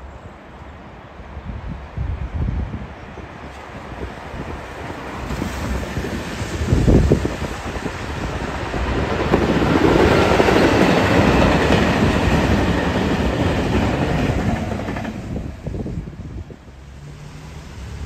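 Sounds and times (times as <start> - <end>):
diesel locomotive passing: 0.0 - 18.0
train wheels rolling on track: 3.4 - 18.0.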